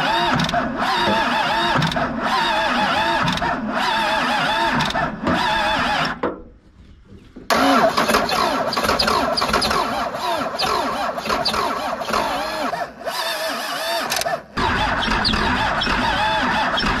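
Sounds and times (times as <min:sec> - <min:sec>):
starter cranking diesel engine: 0:00.0 - 0:06.2, 0:07.5 - 0:17.0.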